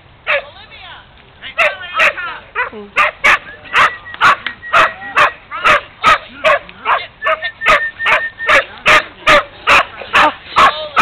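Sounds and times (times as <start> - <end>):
dog barking: 1.6 - 11.0.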